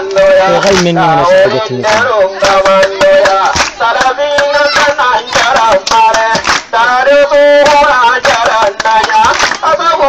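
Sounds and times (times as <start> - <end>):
man singing through a megaphone: 0.0 - 10.0.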